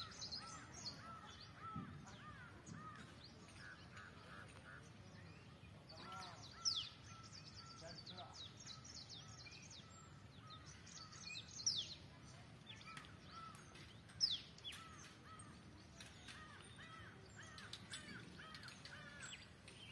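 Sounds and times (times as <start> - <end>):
birds calling short arched notes: 0.0 - 19.9.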